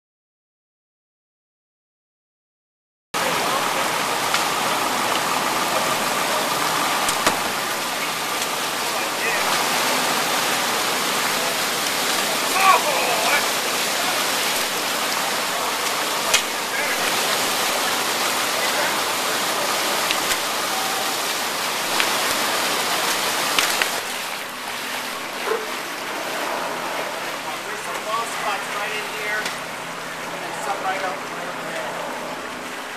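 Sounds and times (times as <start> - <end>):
floodwater rushing: 3.2 - 32.9.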